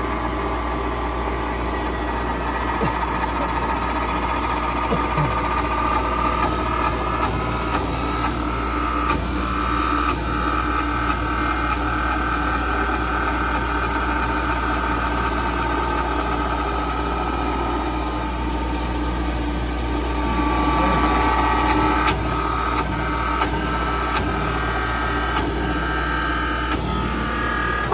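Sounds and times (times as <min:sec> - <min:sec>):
lathe cutting wood: 0:00.0 - 0:27.9.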